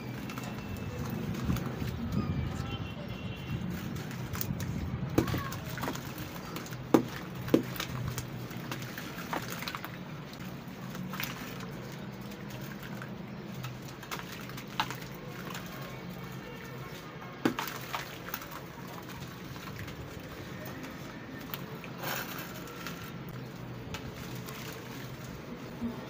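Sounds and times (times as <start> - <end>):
wet squishing and sloshing: 0.0 - 26.0.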